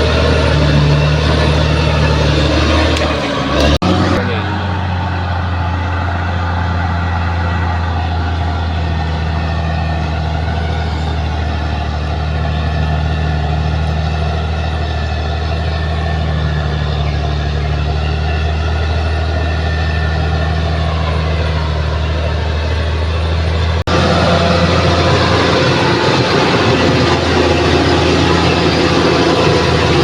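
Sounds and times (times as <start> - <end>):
diesel engine drone: 0.0 - 30.0.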